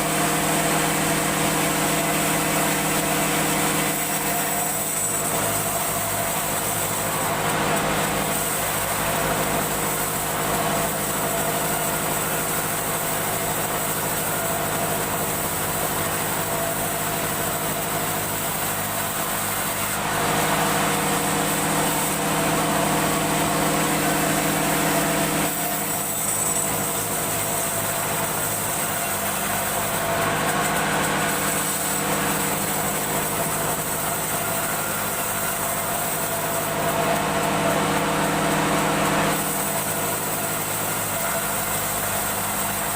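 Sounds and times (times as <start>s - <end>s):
woodworking machine motor running: 0.0s - 42.9s.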